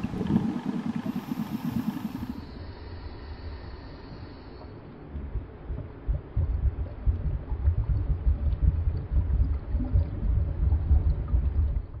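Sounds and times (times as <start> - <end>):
underwater water rumble: 0.0 - 2.7, 3.6 - 12.0.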